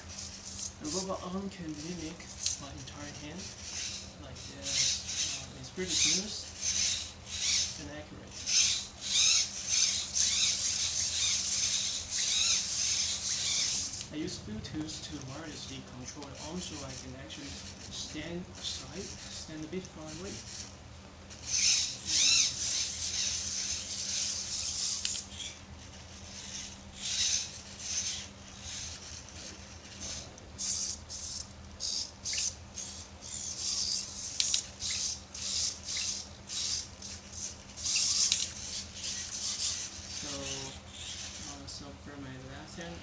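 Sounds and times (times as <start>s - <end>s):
servo motors whirring: 0.0s - 20.7s, 21.3s - 41.6s
steady low hum: 0.0s - 43.0s.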